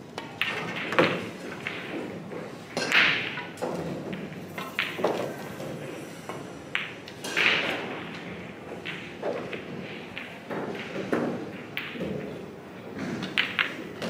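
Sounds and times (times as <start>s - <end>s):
cue ball rolling on table: 0.2s - 14.0s.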